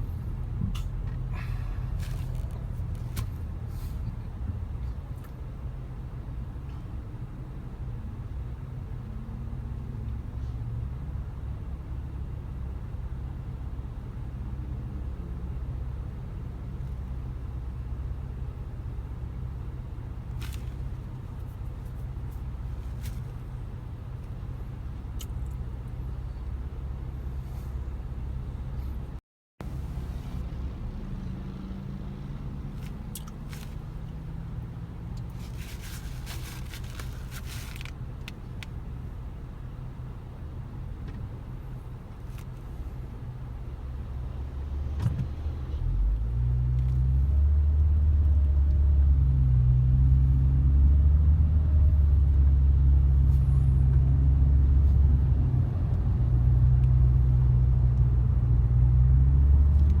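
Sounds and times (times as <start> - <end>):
vehicle engine and road rumble: 0.0 - 60.0.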